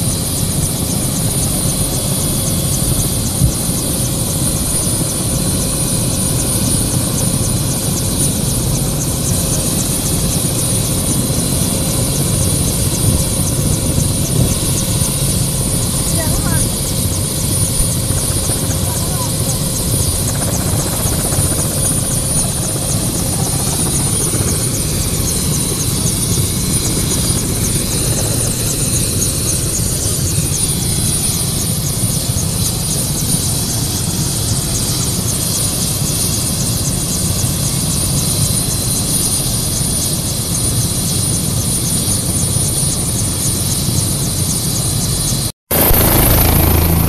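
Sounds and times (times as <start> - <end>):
helicopter engine and rotor noise: 0.0 - 47.0
high constant whine: 0.0 - 47.0.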